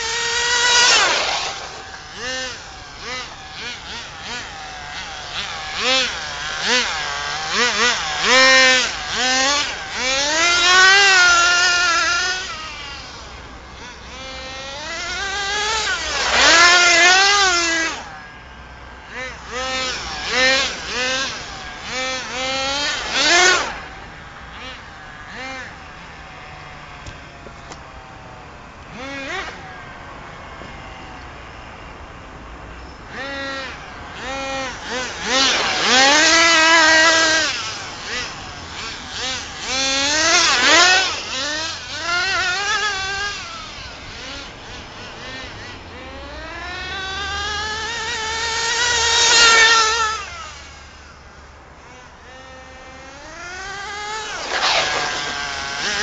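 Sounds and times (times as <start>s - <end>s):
rc car engine revving: 0.0s - 56.0s.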